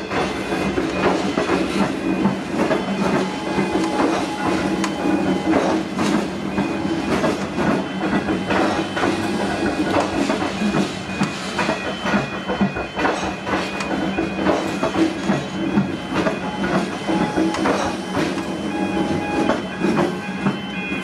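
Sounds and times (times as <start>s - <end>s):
electric train running past: 0.0s - 21.0s.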